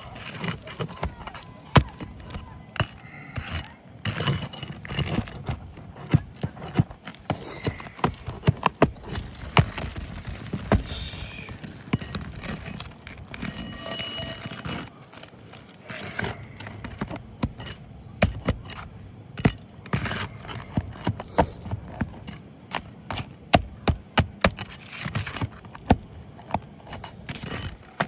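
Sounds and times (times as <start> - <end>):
shingles scraping and rustling: 0.0 - 28.0.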